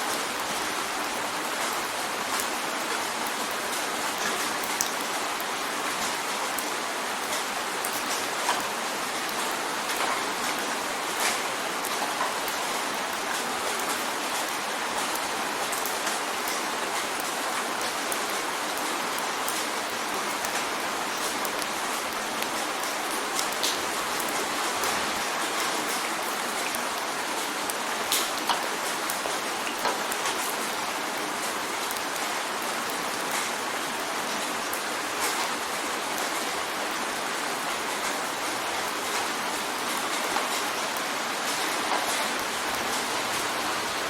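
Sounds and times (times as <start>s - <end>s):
rain drumming on a window: 0.0s - 44.0s.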